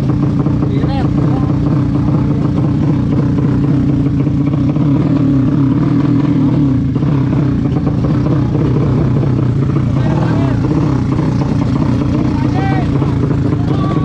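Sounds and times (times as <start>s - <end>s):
loud vehicle engine running: 0.0s - 14.0s.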